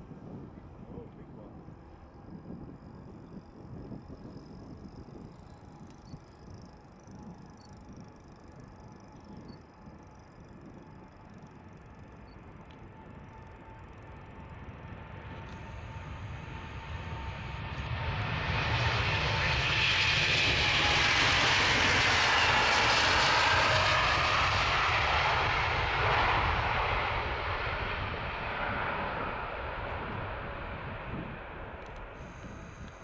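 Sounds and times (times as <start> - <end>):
jet engines roaring at takeoff: 0.0 - 33.0.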